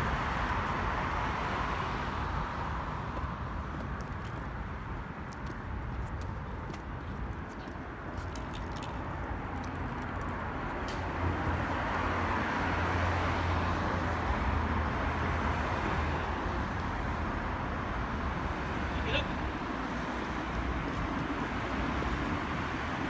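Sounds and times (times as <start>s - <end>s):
low traffic rumble: 0.0s - 23.0s
passing vehicles rushing: 0.0s - 23.0s.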